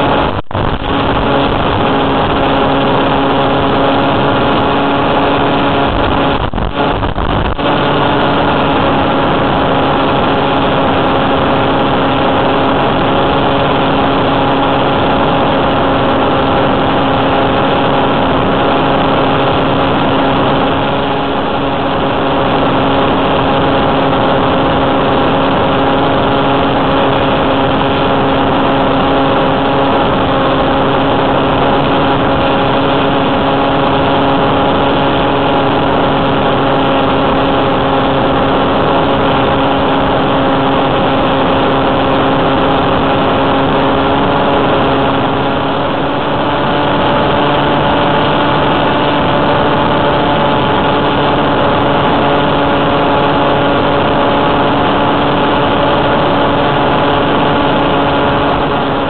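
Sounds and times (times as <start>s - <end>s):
electric motor and propeller humming: 0.0s - 59.0s.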